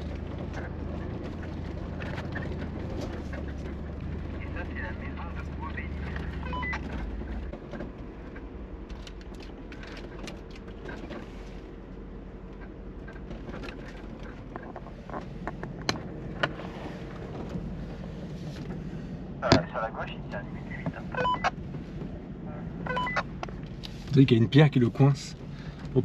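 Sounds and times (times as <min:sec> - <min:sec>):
car cabin hum: 0:00.0 - 0:26.0.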